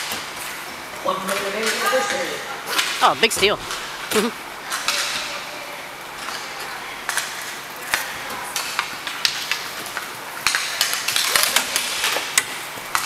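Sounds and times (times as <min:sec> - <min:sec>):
hockey sticks clacking: 0:00.0 - 0:05.6, 0:06.2 - 0:13.0
skate wheels rolling: 0:00.0 - 0:13.0.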